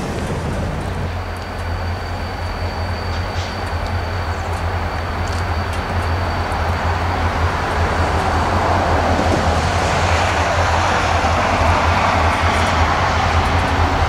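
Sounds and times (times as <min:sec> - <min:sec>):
diesel locomotive engines rumbling: 0:00.0 - 0:14.0.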